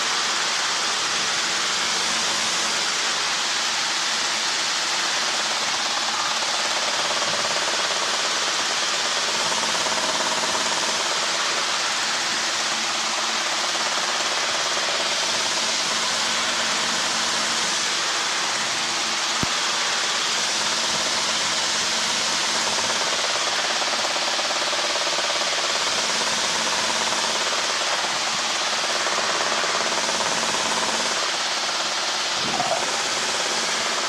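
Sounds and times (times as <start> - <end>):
helicopter engine and rotor noise: 0.0 - 34.0.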